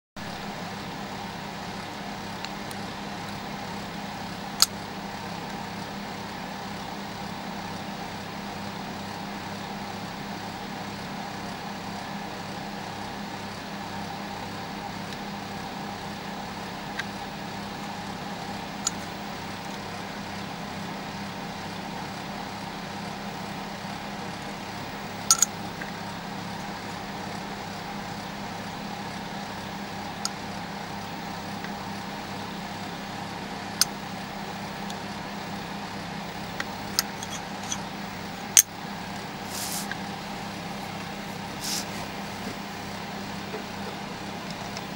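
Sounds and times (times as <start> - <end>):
low machine hum: 0.2 - 44.9.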